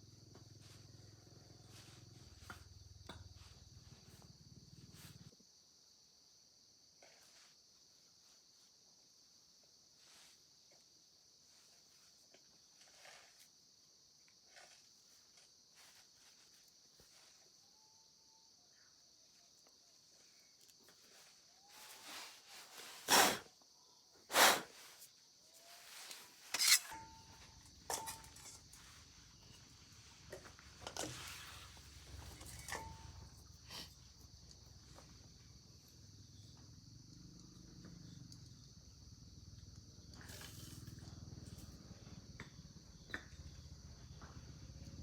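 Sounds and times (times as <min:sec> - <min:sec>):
crickets chirring: 0:00.0 - 0:45.0.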